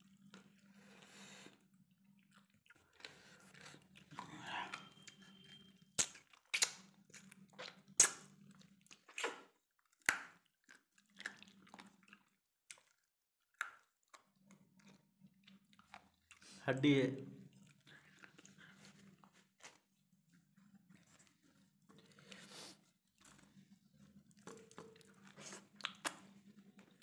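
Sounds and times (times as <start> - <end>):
chewing food: 0.0 - 16.6, 17.4 - 27.0.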